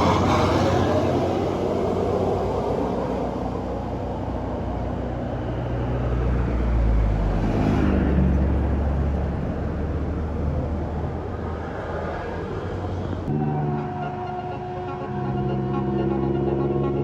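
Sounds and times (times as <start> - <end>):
diesel bus engine passing: 0.0 - 17.0.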